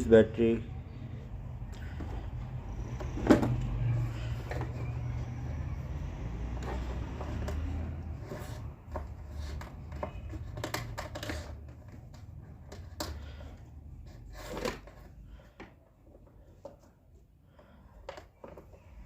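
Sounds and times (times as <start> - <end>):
handling clicks and rustles: 1.3 - 19.0.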